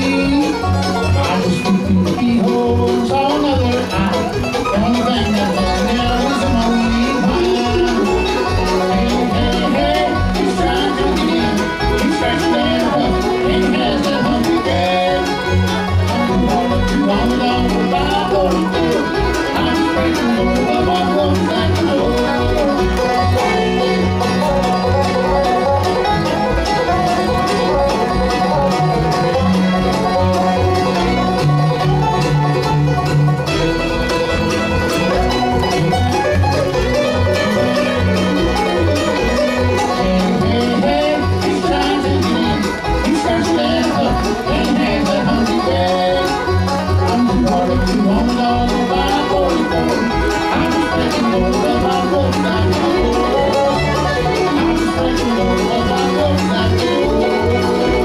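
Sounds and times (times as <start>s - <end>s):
acoustic guitar: 0.0s - 58.0s
banjo: 0.0s - 58.0s
fiddle: 0.0s - 58.0s
mandolin: 0.0s - 58.0s
walking upright bass: 0.0s - 58.0s.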